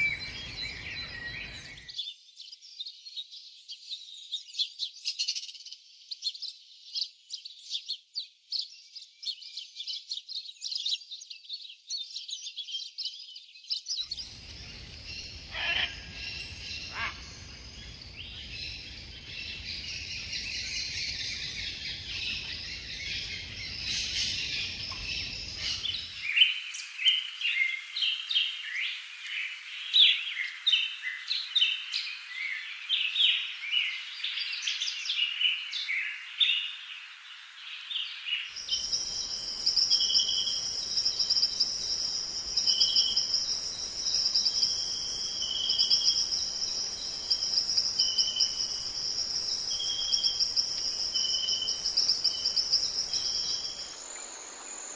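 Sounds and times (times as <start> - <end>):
bird chirps and calls: 0.0 - 36.9, 37.8 - 54.9.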